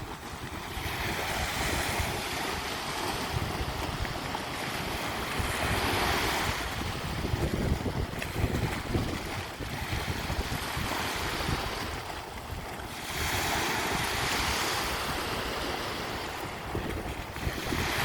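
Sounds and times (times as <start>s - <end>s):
sea waves breaking on beach: 0.0s - 18.0s
wind buffeting microphone: 0.0s - 18.0s.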